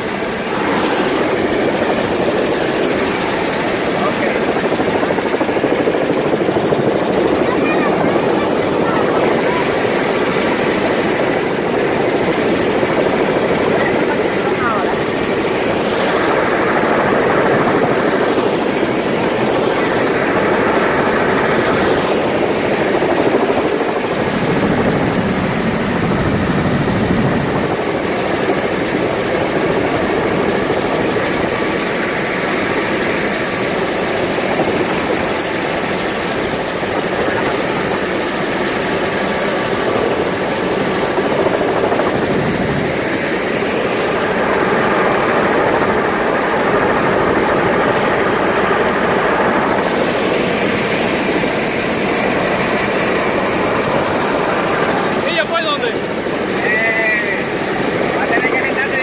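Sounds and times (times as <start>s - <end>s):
helicopter rotor and engine: 0.0s - 59.0s
steady high whine: 0.0s - 59.0s.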